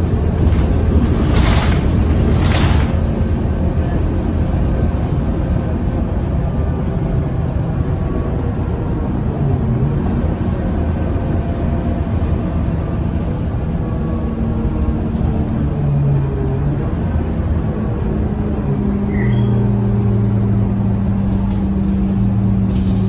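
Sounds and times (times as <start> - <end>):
bus engine and road drone: 0.0 - 23.0.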